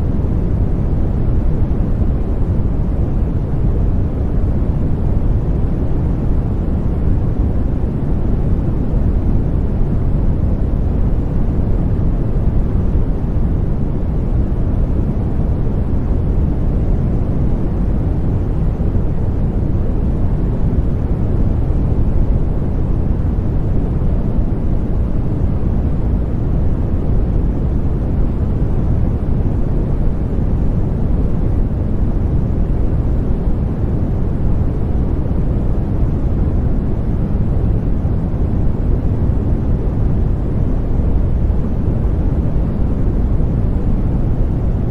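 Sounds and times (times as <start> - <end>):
deep white noise: 0.0 - 44.9.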